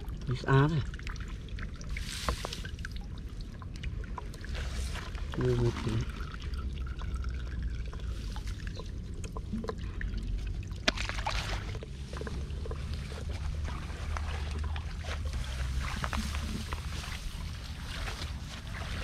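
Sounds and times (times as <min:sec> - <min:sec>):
low rumble: 0:00.0 - 0:19.0
water sloshing and trickling: 0:00.0 - 0:19.0
water splash: 0:01.0 - 0:19.0.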